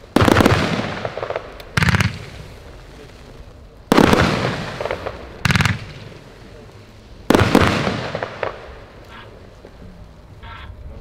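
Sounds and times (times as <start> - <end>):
firework bursts of sharp bangs: 0.0 - 9.8.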